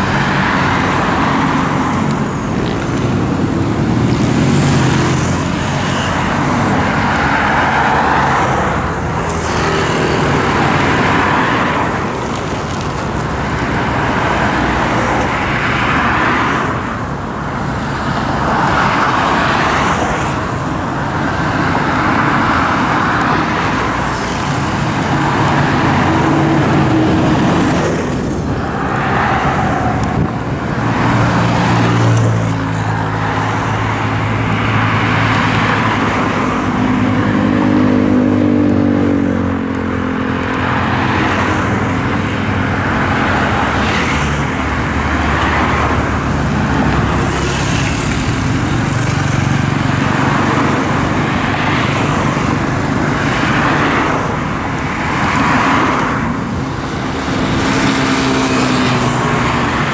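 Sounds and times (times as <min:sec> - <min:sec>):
highway traffic passing: 0:00.0 - 0:59.9.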